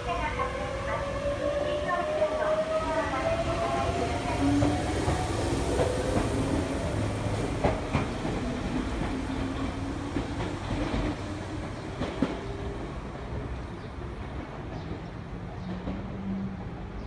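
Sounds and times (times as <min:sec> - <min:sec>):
electric train rumble: 0:00.0 - 0:16.9.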